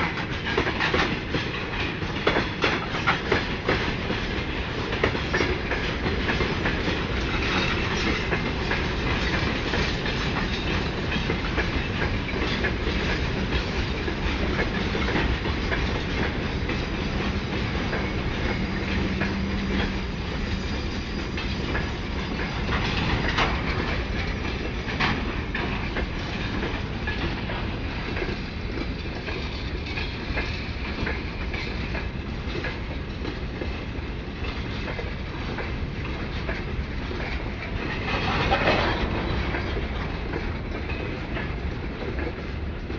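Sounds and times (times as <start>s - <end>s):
freight train rumbling: 0.0s - 42.9s
wheels clicking over rail joints: 0.0s - 42.9s.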